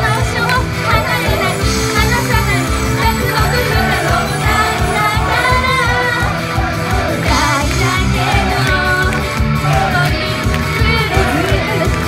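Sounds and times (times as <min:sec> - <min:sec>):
pop backing track with beat: 0:00.0 - 0:12.0
women singing into microphones: 0:00.9 - 0:06.6, 0:07.2 - 0:12.0.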